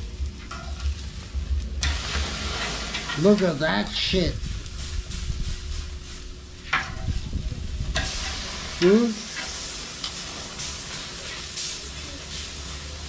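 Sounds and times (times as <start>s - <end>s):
steaks sizzling on a grill: 0.0s - 13.0s.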